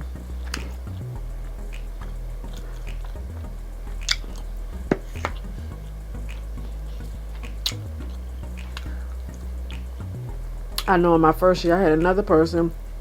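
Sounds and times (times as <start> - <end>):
sharp clicks: 0.0 - 12.9
low steady hum: 0.0 - 13.0.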